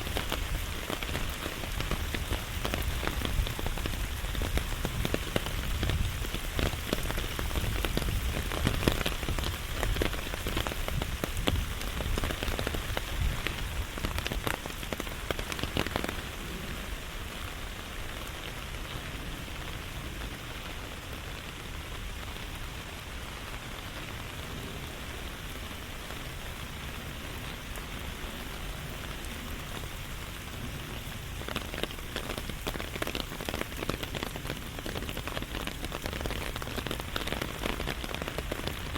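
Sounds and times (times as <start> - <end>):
sharp raindrop hits: 0.0 - 38.9
steady rain falling: 0.0 - 38.9.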